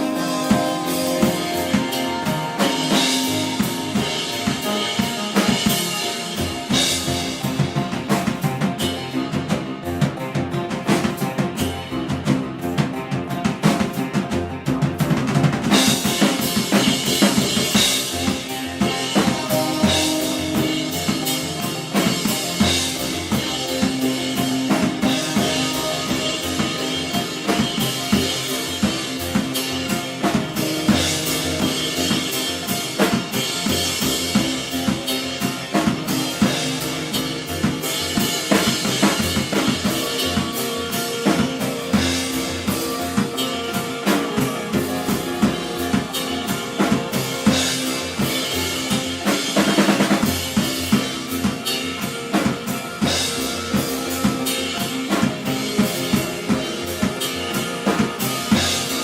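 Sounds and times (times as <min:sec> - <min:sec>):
fast drum kit hits: 0:00.0 - 0:59.0
live band playing: 0:00.0 - 0:59.0.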